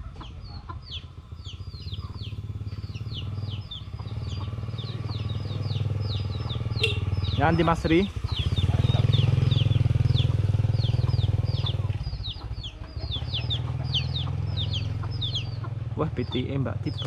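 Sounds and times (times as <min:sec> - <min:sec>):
chicks peeping: 0:00.0 - 0:17.0
motorcycle engine running: 0:00.0 - 0:17.0.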